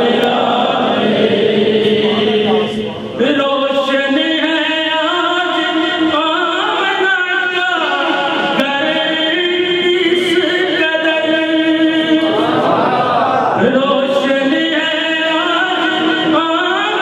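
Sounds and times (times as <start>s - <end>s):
man chanting into microphone: 1.4s - 12.7s, 13.5s - 17.0s.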